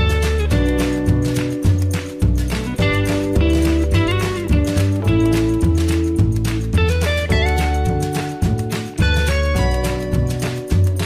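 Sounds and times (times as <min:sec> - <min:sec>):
music with guitar and bass: 0:00.0 - 0:11.0.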